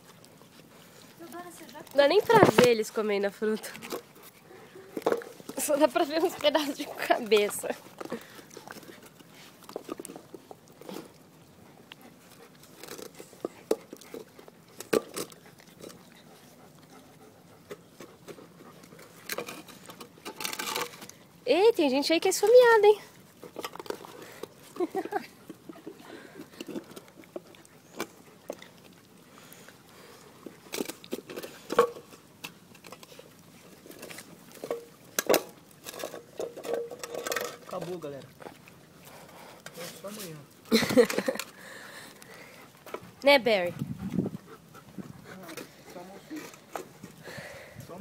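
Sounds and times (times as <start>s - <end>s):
puppies chewing and smacking: 0.0s - 48.0s.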